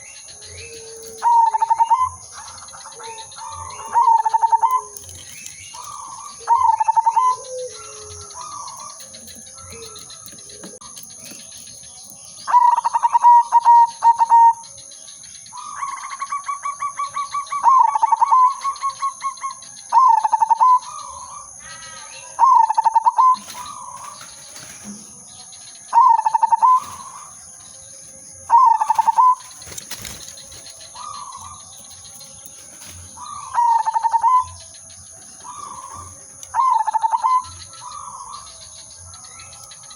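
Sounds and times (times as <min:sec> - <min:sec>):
dove cooing: 0:00.0 - 0:11.8, 0:12.4 - 0:14.8, 0:15.6 - 0:27.3, 0:28.5 - 0:38.7
dove rapid pulsed notes: 0:00.0 - 0:39.9.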